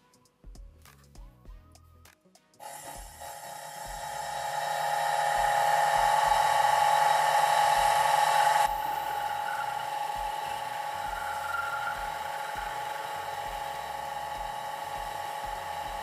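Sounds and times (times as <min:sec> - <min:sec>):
graver cutting hiss: 0:02.6 - 0:16.0
lathe high whine: 0:02.6 - 0:16.0.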